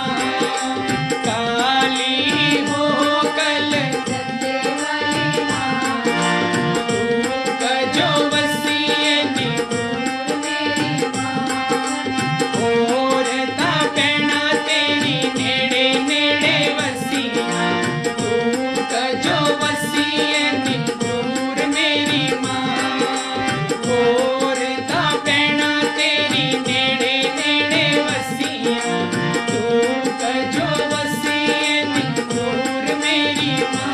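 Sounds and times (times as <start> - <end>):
man singing: 0.0 - 11.8, 12.4 - 33.9
harmonium melody: 0.0 - 33.9
percussion rhythm: 0.0 - 33.9.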